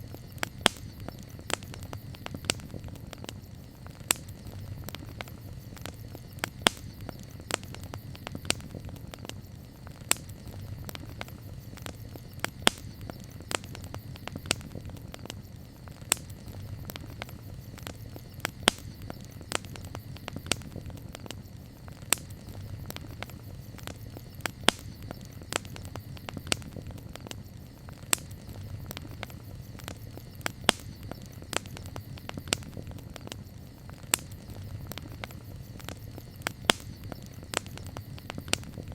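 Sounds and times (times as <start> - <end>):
campfire crackling and popping: 0.0 - 38.9
low rumble of burning: 0.0 - 38.9.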